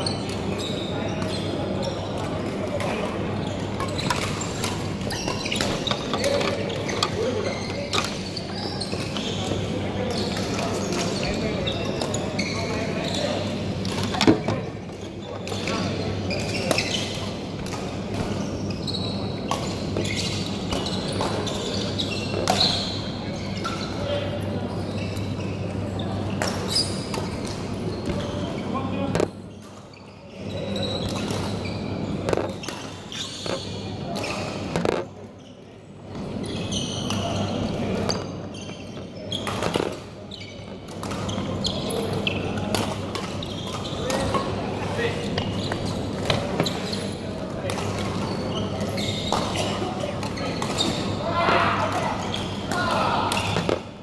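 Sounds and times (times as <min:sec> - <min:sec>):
shoes squeaking on court floor: 0:00.0 - 0:54.0.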